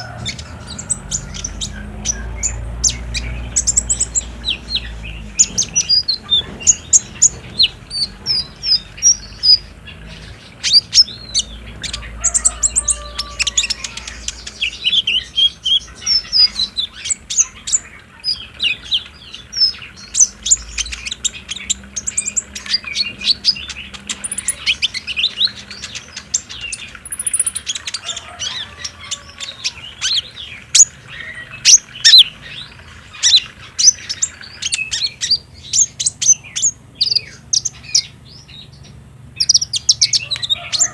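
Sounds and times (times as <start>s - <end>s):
sunbird singing rapid chirps: 0.0s - 40.9s.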